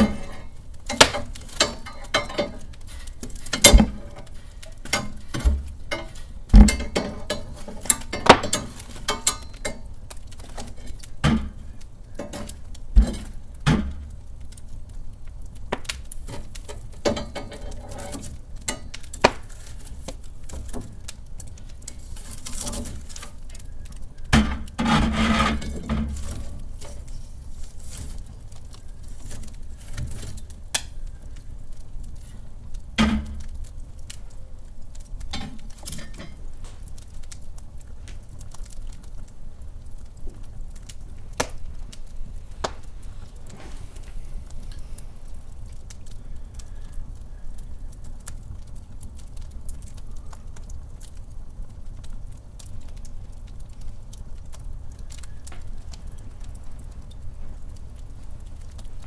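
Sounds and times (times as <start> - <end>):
hissing flare-up: 0.0 - 59.0
sharp fire pops: 0.0 - 59.0
wood fire crackling: 0.0 - 59.0.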